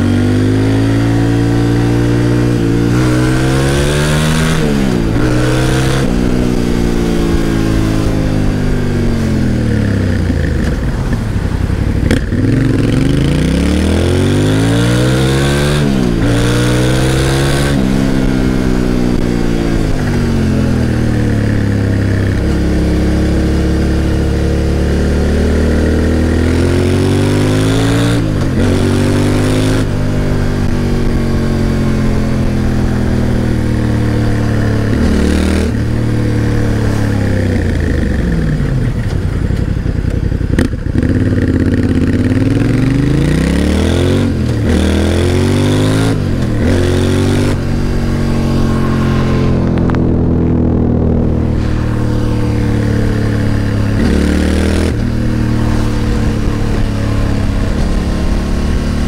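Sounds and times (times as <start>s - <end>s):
motorcycle engine revving through gears: 0.0s - 59.0s.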